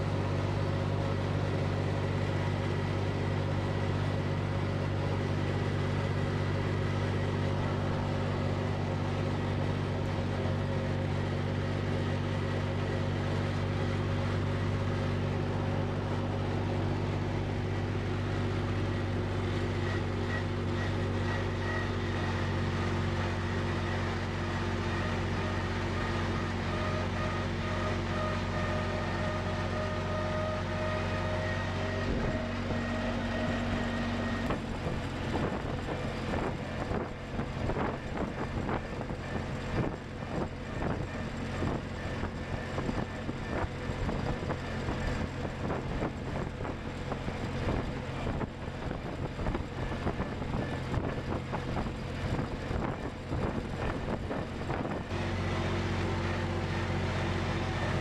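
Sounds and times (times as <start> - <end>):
faint steady whines: 0.0 - 58.0
tractor engine droning: 0.0 - 58.0.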